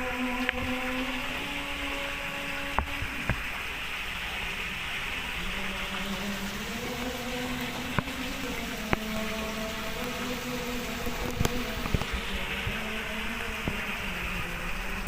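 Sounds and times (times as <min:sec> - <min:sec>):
faint low pump hum: 0:00.0 - 0:15.0
pond water rushing: 0:00.0 - 0:15.0.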